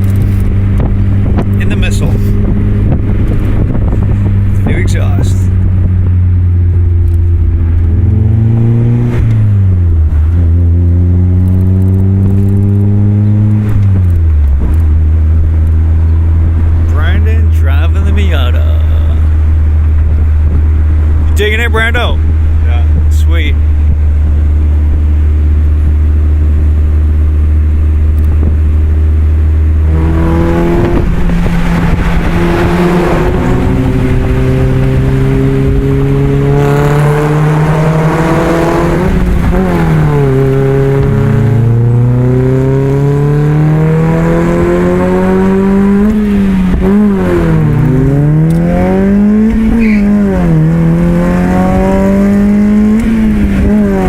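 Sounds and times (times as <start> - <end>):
car engine through exhaust: 0.0 - 54.0.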